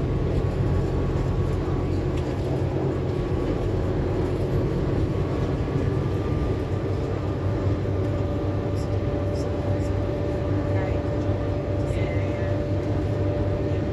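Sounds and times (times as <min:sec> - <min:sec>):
bus diesel engine running: 0:00.0 - 0:13.9
lower whine: 0:00.0 - 0:13.9
road noise: 0:00.0 - 0:13.9.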